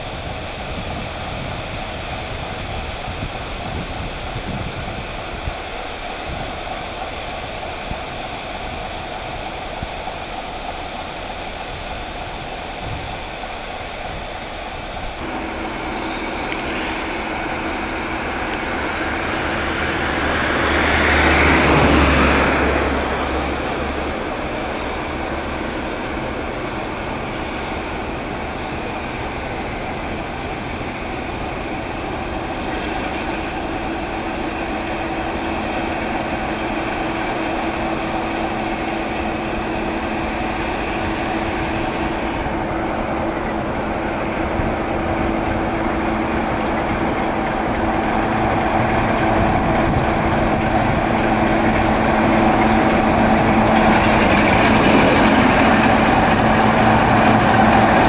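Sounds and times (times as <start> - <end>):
diesel locomotive engine: 0.0 - 58.0.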